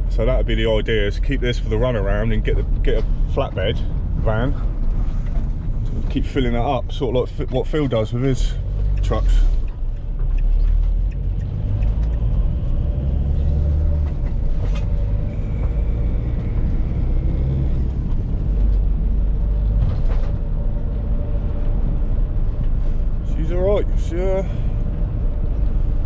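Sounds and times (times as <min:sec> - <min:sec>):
road noise: 0:00.0 - 0:26.0
van engine running: 0:00.0 - 0:26.0.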